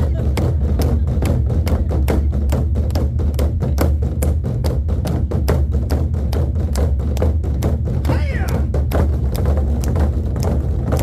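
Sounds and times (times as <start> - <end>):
deep drum boom: 0.0 - 11.0
drums beating fast rhythm: 0.0 - 11.0.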